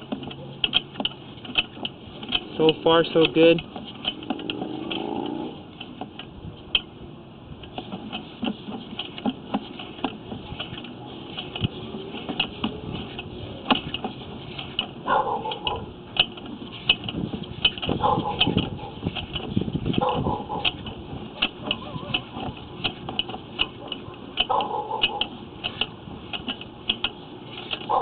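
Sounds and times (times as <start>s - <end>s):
cable reel clicking and rattling: 0.0s - 28.0s.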